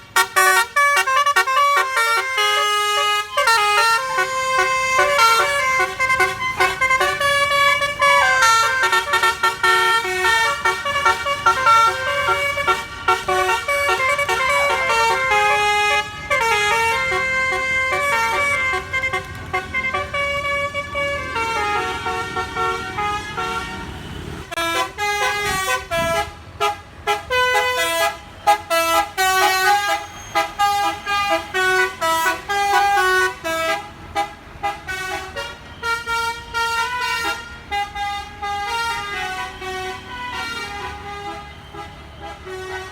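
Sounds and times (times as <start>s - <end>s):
engine and road noise: 0.0s - 42.9s
multi-tone bus air horn melody: 0.0s - 42.9s.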